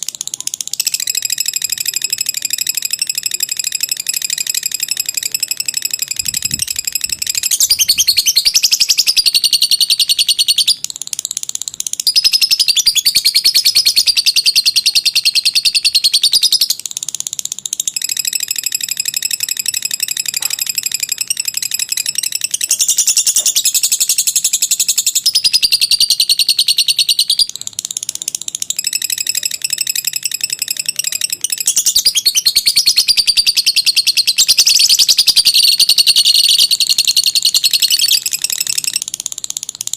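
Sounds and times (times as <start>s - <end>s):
lovebird chattering rapidly: 0.0s - 39.9s.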